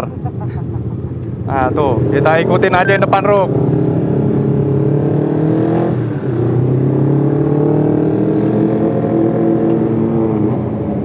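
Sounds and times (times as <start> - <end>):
motorcycle engine revving: 0.1 - 11.0.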